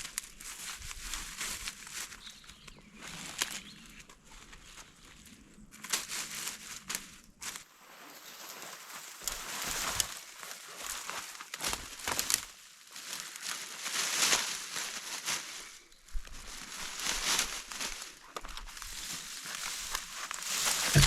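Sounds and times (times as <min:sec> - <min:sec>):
rustling and crinkling: 0:00.0 - 0:21.0.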